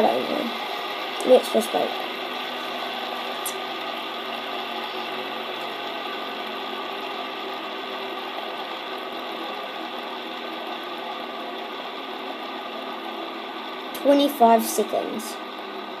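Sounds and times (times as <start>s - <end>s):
fidget spinner whirring: 0.0s - 16.0s.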